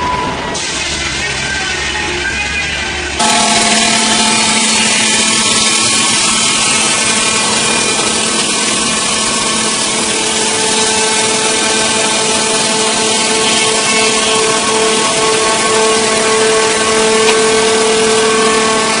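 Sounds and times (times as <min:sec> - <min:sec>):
higher engine hum: 0:00.0 - 0:19.0
engine-driven saw cutting wood: 0:03.2 - 0:19.0.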